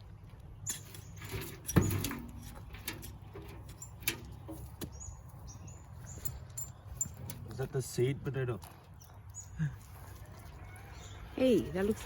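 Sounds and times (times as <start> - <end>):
soil knocks and scraping: 0.0 - 12.0.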